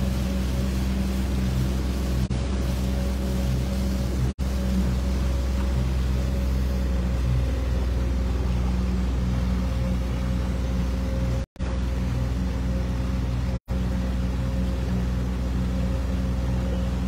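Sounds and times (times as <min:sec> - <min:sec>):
outboard motor running: 0:00.0 - 0:17.0
water rushing in wake: 0:00.0 - 0:17.0.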